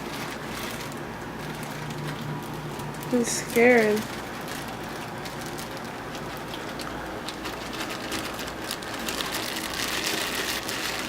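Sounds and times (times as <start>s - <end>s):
aquarium water bubbling: 0.0s - 10.7s.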